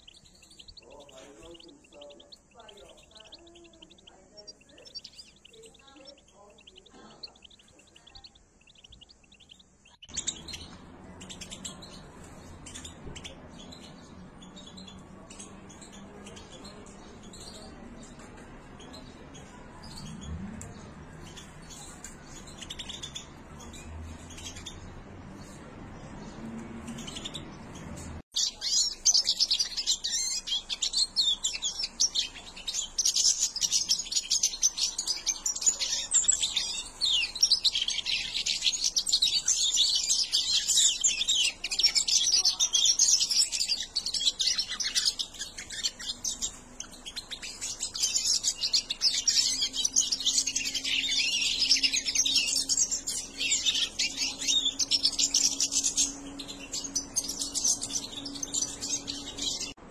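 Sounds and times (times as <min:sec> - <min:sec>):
goldfinches chirping and twittering: 0:00.0 - 0:59.9.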